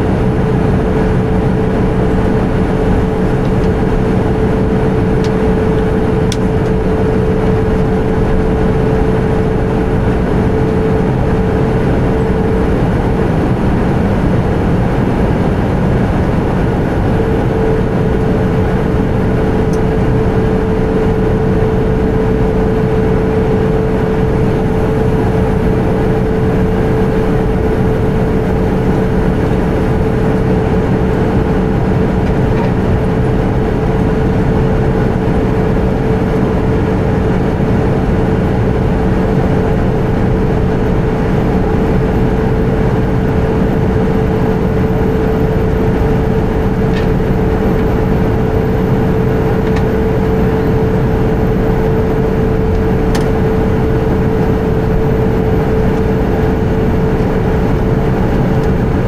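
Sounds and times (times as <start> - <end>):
constant cabin hum: 0.0 - 59.0
jet engine drone and airflow: 0.0 - 59.0.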